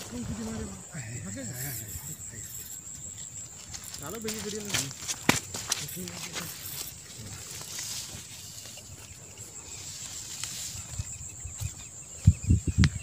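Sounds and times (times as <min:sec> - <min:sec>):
high-pitched insect buzz: 0:00.0 - 0:13.0.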